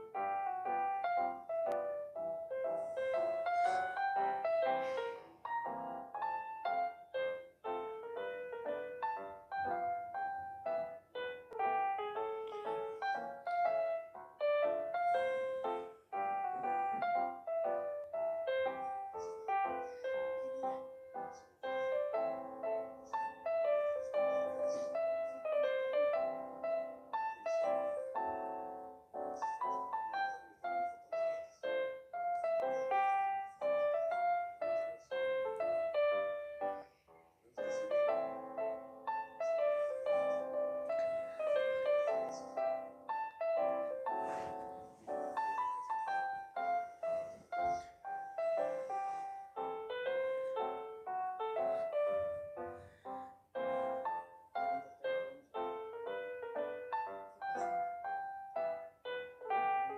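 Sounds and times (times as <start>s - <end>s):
fast piano music: 0.0s - 59.9s.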